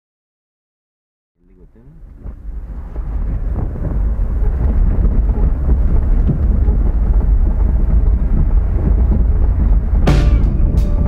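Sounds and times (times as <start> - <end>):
vehicle rumbling on gravel: 1.5 - 11.0
wind buffeting microphone: 1.5 - 11.0.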